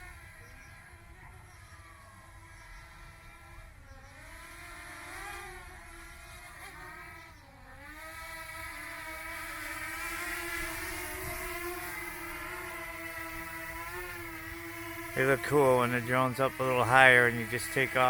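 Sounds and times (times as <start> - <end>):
drone propeller whine: 0.0 - 18.0.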